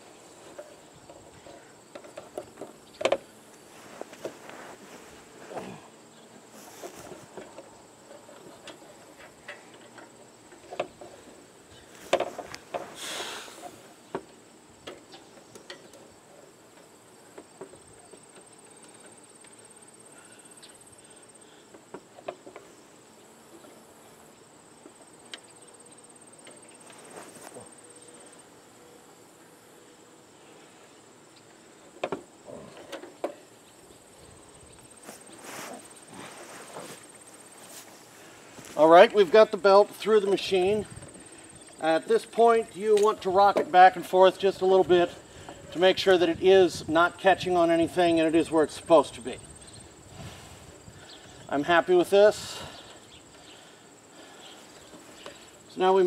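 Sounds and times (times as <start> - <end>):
high insect buzz: 0.0 - 39.0, 49.2 - 56.0.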